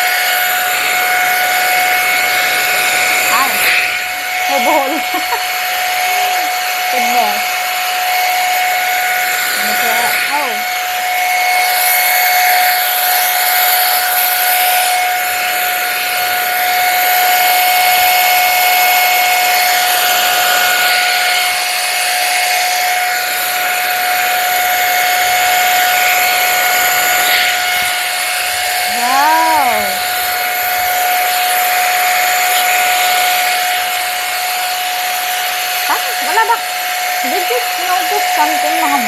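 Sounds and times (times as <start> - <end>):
hot air brush whine and airflow: 0.0 - 39.0.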